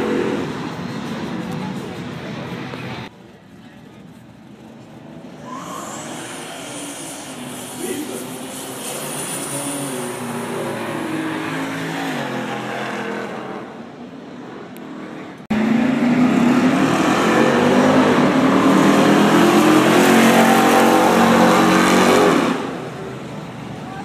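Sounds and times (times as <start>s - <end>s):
car engines revving: 0.0s - 3.1s, 4.0s - 24.0s.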